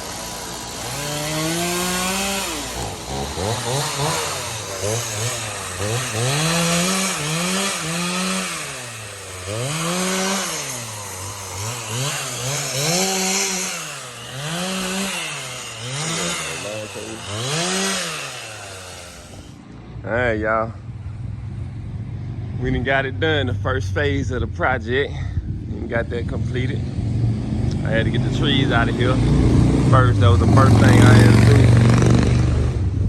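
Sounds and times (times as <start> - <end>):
chainsaw engine revving: 0.0 - 19.6, 25.8 - 33.0.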